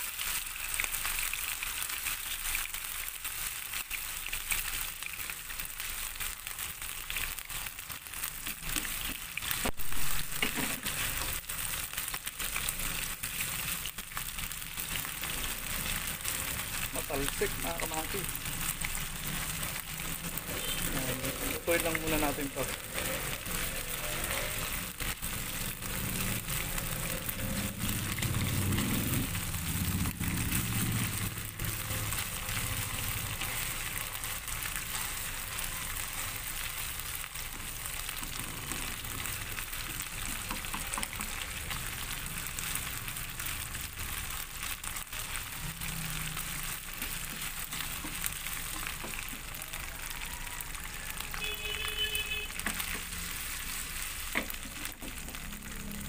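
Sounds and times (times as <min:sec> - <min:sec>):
meat sizzling and spattering: 0:00.0 - 0:56.0.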